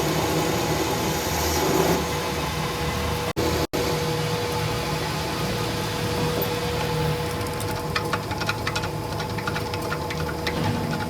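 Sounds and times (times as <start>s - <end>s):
workshop machinery humming: 0.0s - 11.0s.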